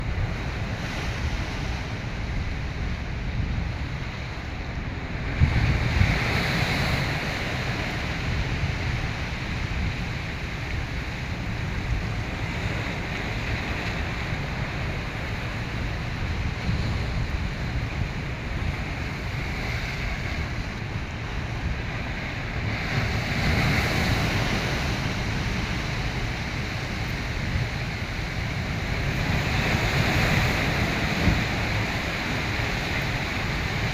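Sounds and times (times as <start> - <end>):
sea surf breaking: 0.0 - 33.9
wind buffeting microphone: 0.0 - 33.9.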